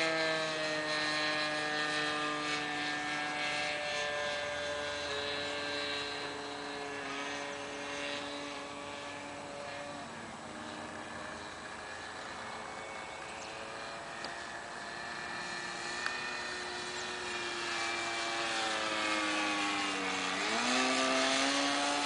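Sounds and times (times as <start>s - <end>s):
model plane engine running: 0.0s - 22.0s.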